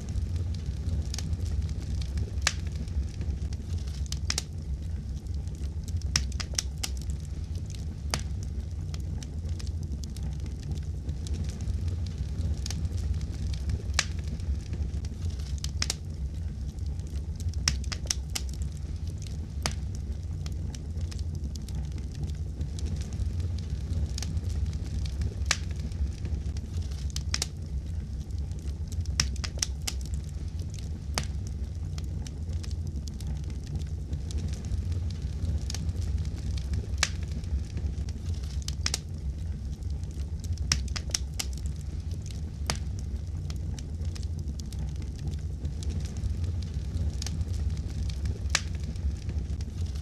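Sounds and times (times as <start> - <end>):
burning wood popping: 0.0 - 50.0
fire rumbling: 0.0 - 50.0.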